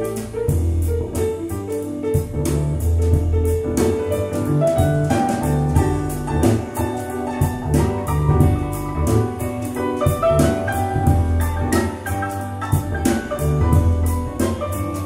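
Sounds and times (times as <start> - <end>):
jazz with piano bass and drums: 0.0 - 15.0.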